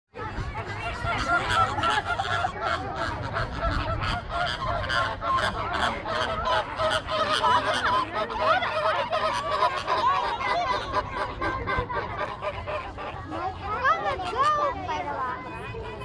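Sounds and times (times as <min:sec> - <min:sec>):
flamingos honking: 0:00.5 - 0:16.0.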